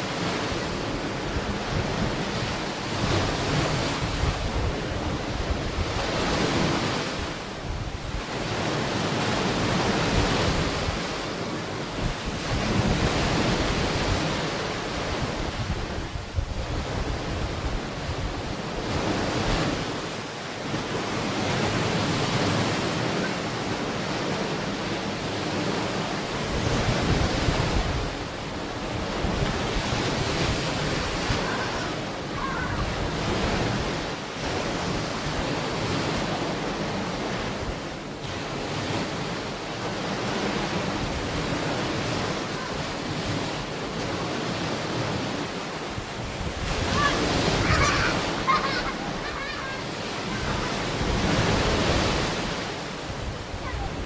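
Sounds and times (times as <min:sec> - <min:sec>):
ocean waves breaking: 0:00.0 - 0:54.0
wind buffeting microphone: 0:00.1 - 0:11.2, 0:11.8 - 0:20.0, 0:21.2 - 0:39.3, 0:44.9 - 0:54.0.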